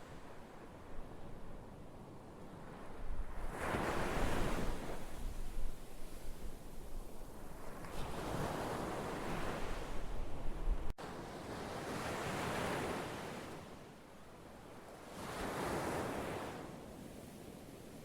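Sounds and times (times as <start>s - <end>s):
waves breaking and washing in: 0.0s - 18.0s.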